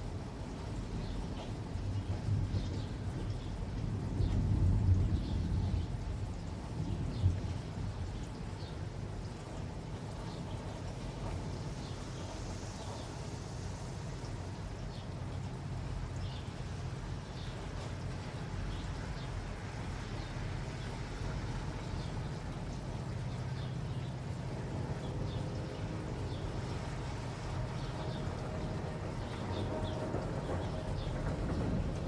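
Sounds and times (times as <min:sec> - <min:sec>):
low rumble and hiss: 0:00.0 - 0:32.0.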